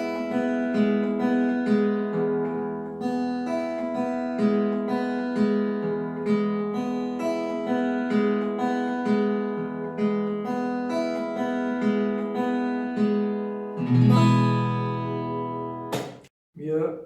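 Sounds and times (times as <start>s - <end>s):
fingerstyle acoustic guitar: 0.0s - 16.2s.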